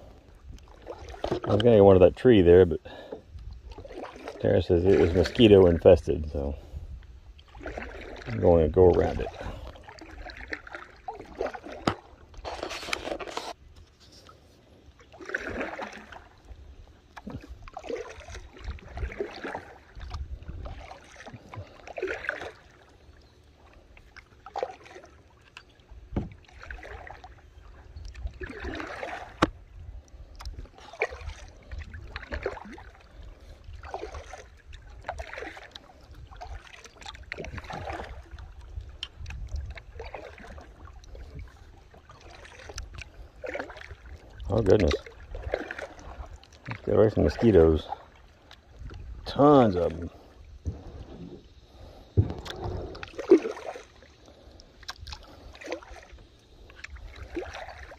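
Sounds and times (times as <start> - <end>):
paddle splashing through water: 0.0 - 57.9.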